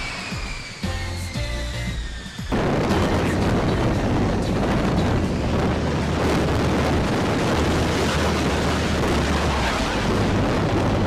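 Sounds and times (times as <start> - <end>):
jet engine roaring: 0.0 - 11.0.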